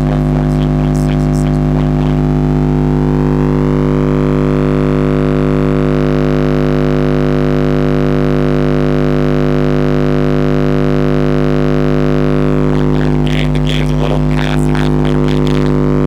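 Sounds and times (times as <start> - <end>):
subwoofer low test tone drone: 0.0 - 16.0.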